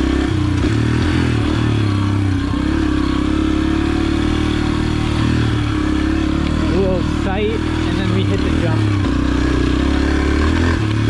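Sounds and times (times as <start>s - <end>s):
pit bike engine running: 0.0s - 11.0s.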